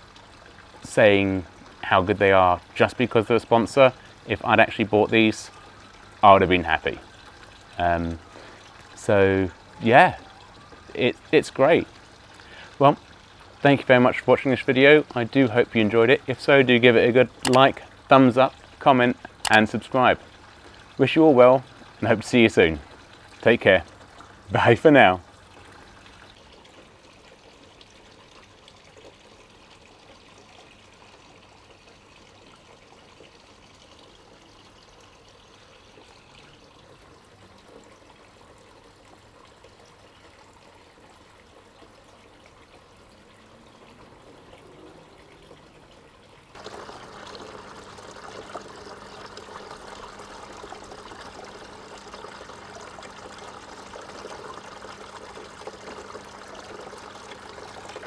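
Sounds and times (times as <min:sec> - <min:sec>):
water trickling down stones: 0:00.0 - 0:58.0.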